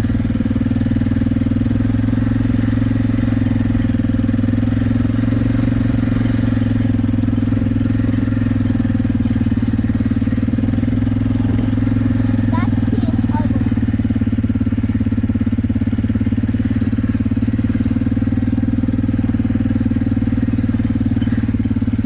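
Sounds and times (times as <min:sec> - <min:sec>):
small vehicle engine running: 0:00.0 - 0:22.0.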